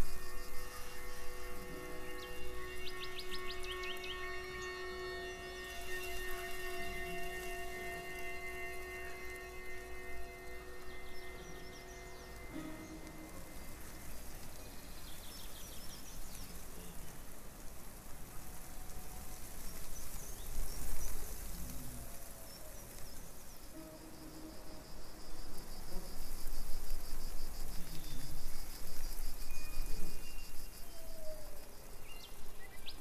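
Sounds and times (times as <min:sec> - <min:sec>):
hissing ambient soundscape: 0:00.0 - 0:33.0.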